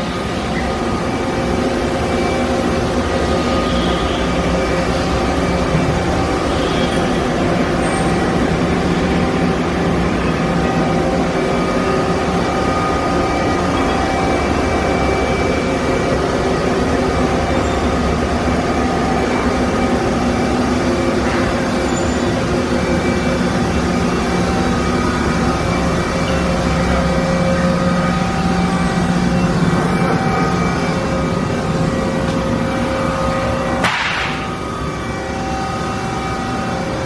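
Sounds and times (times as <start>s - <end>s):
machine hum with constant tones: 0.0s - 37.0s.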